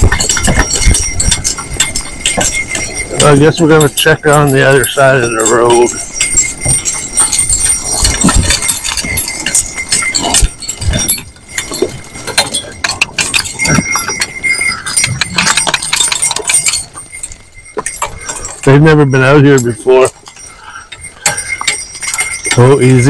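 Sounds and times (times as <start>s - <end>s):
harness jingling and clinking: 0.0s - 23.0s
hooves thudding: 0.0s - 23.0s.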